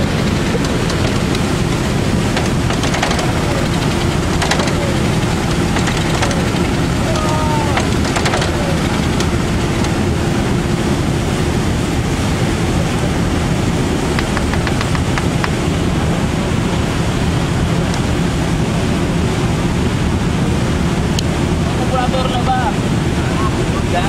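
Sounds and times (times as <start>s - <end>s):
motorboat engine rumble: 0.0s - 24.0s
rushing wind: 0.0s - 24.0s
water noise: 0.0s - 24.0s.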